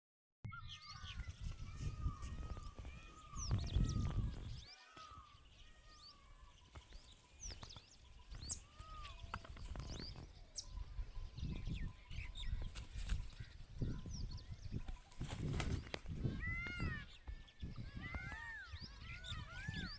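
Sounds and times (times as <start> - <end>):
birds chirping: 0.5 - 19.9.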